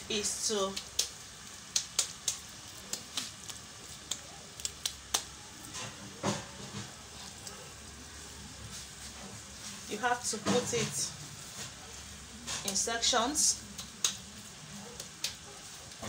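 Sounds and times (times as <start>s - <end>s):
water boiling with bubbles popping: 0.0s - 16.0s.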